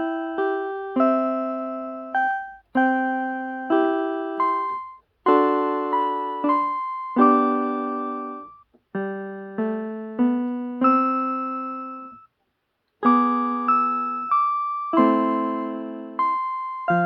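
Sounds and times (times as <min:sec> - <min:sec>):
piano chords: 0:00.0 - 0:12.2, 0:13.0 - 0:17.0.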